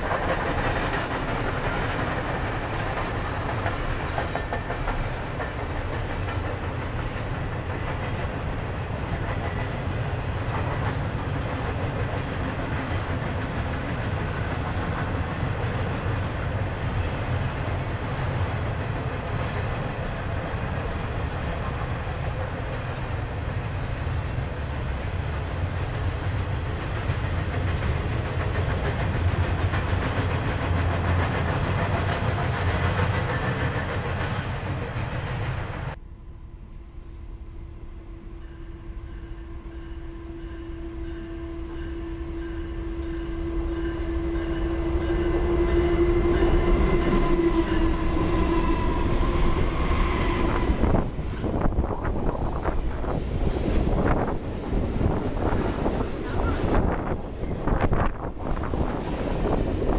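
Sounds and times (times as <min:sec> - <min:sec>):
train rumbling by: 0:00.0 - 0:36.0, 0:36.9 - 0:59.9
train wheel noise: 0:00.0 - 0:36.0, 0:37.0 - 0:59.9.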